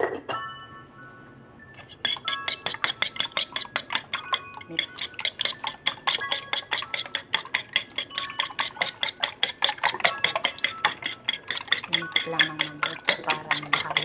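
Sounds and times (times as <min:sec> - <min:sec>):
utensil clicking against dish: 0:02.0 - 0:14.0.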